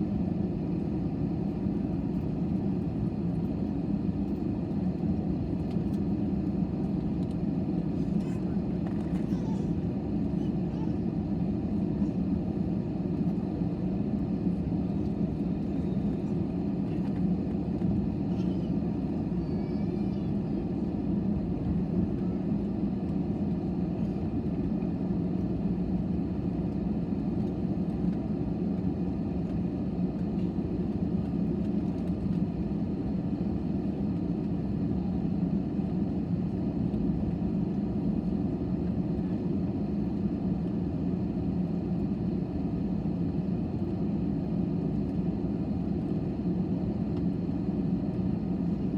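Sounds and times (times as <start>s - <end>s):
airliner cabin engine drone: 0.0s - 48.9s.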